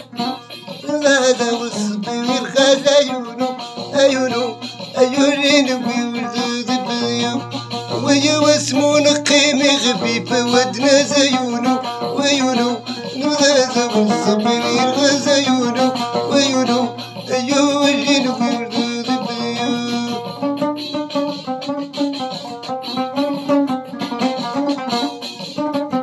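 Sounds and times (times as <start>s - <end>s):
plucked lute melody: 0.0s - 26.0s.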